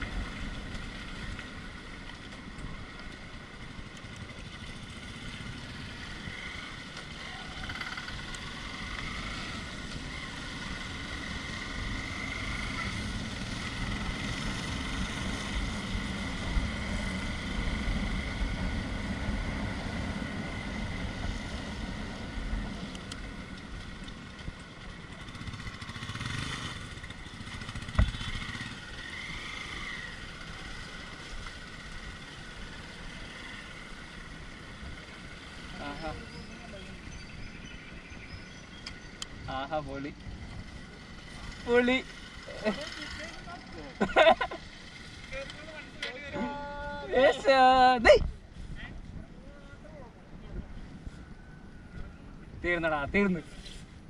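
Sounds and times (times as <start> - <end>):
off-road motorcycle engine: 0.0 - 54.0.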